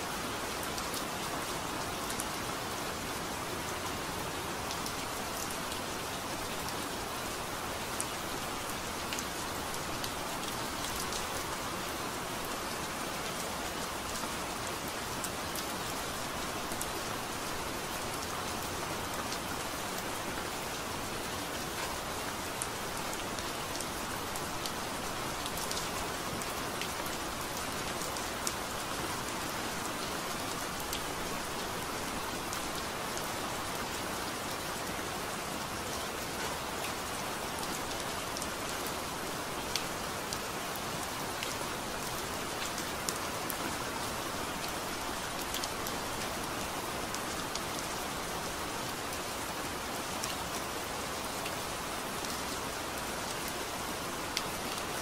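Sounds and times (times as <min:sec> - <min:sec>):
rain on leaves: 0:00.0 - 0:55.0.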